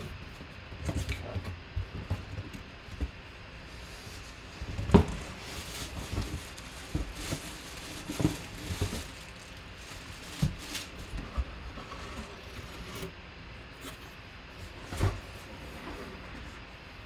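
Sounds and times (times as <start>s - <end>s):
cardboard scraping: 0.8s - 16.7s.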